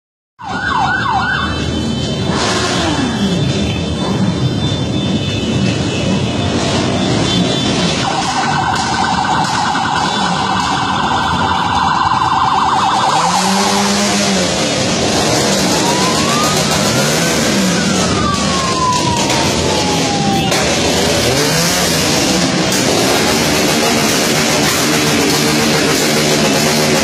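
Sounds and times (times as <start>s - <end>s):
police siren: 0.4s - 27.0s
motorcycle engines revving: 1.5s - 27.0s.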